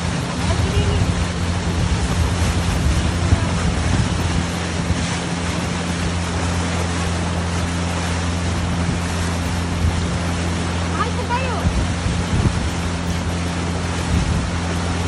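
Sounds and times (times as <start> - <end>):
boat engine droning: 0.0 - 15.0
rushing water: 0.0 - 15.0
wind: 0.0 - 15.0.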